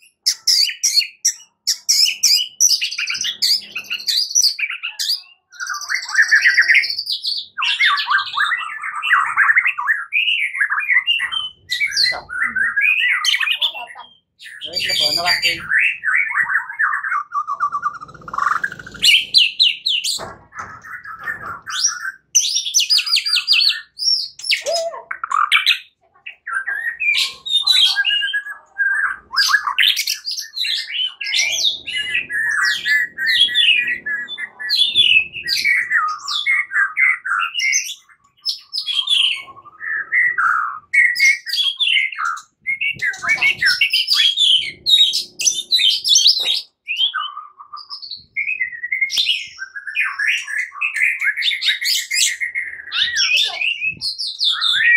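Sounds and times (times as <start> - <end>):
bird singing whistles and trills: 0.0 - 20.2, 20.9 - 54.9.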